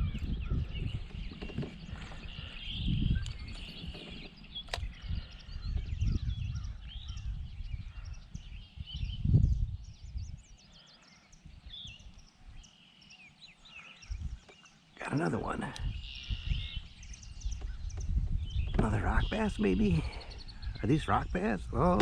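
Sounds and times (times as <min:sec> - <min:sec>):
wind buffeting microphone: 0:00.0 - 0:12.8, 0:13.4 - 0:22.0
small birds chirping: 0:00.0 - 0:22.0.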